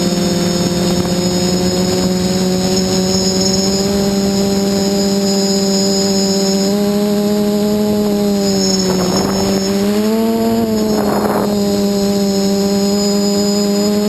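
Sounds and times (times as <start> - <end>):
quadcopter motors buzzing: 0.0 - 14.0.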